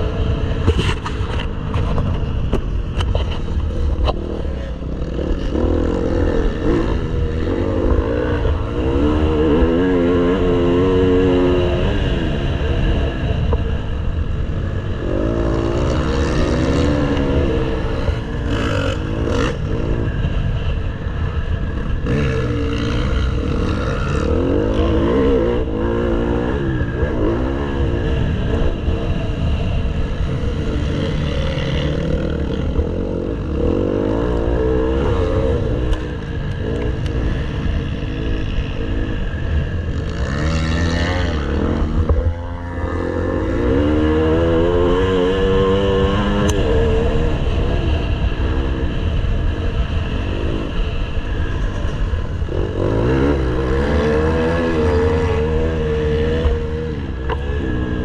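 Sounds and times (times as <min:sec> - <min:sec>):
motocross bike engine revving: 0:03.4 - 0:58.0.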